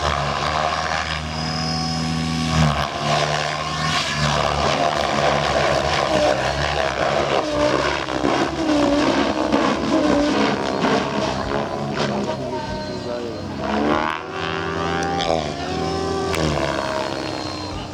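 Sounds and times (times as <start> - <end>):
helicopter motor whine: 0.0 - 17.9
rc helicopter rotor hum: 0.0 - 17.9.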